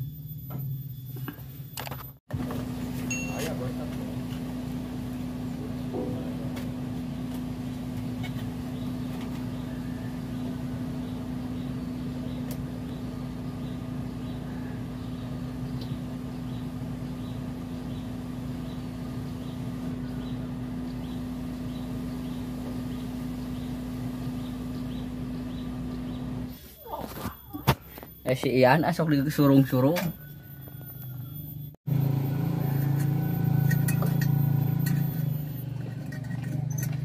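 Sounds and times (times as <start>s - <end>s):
vehicle engine idling: 2.3s - 26.5s, 31.3s - 37.0s.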